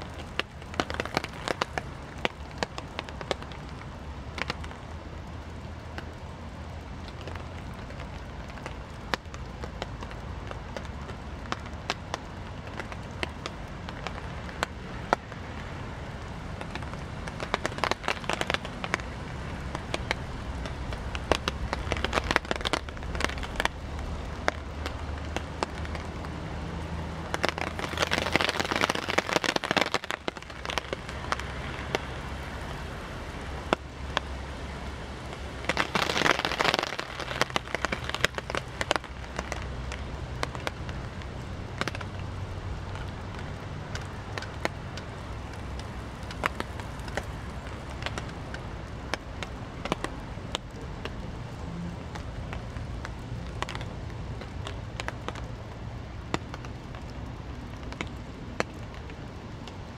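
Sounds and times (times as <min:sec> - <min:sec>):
heavy rain through forest canopy: 0:00.0 - 0:59.9
raindrops tapping: 0:00.0 - 0:59.9.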